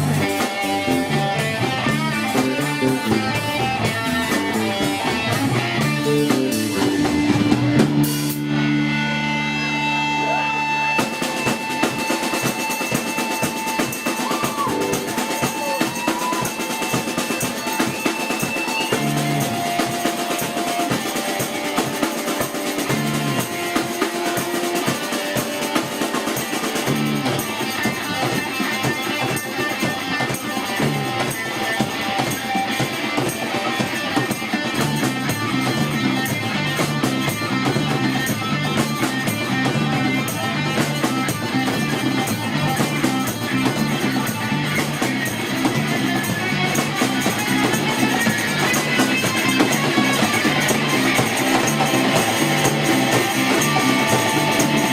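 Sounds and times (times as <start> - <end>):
bass: 0.0 - 54.9
drum kit: 0.0 - 54.9
guitar: 0.0 - 54.9.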